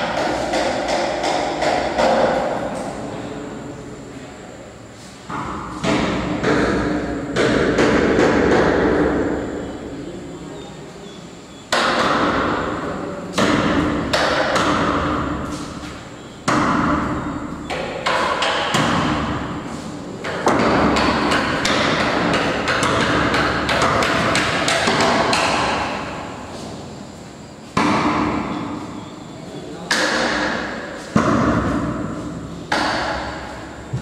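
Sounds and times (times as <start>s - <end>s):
loud banging echoing in room: 0.0s - 34.0s.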